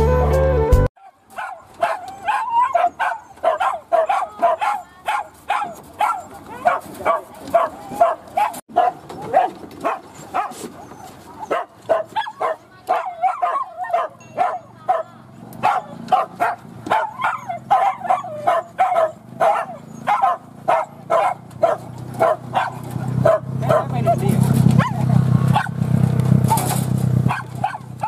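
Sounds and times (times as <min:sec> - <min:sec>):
dogs barking quickly: 0:01.0 - 0:25.8, 0:26.4 - 0:28.0.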